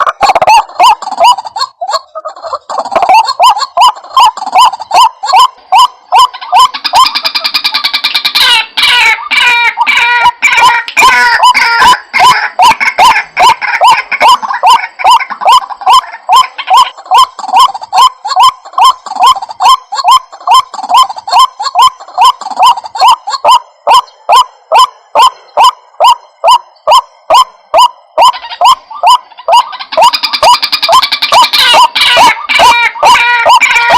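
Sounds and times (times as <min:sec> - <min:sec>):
waterhen croaking call: 0:00.0 - 0:33.9.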